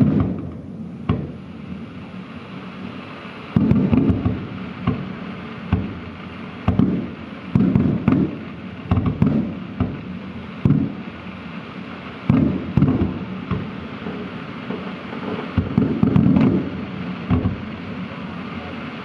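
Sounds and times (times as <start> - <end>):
firework shells bursting: 0.0 - 19.0.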